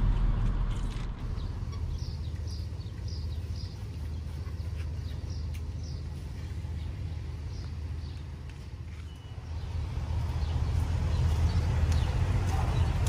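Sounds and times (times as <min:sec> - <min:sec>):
steady low rumble: 0:00.0 - 0:04.4, 0:05.1 - 0:13.0.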